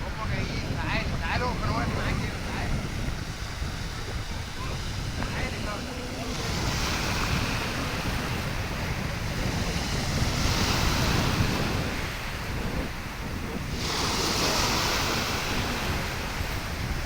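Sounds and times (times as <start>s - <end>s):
waves washing in: 0.0s - 17.0s
wind buffeting microphone: 0.0s - 17.0s.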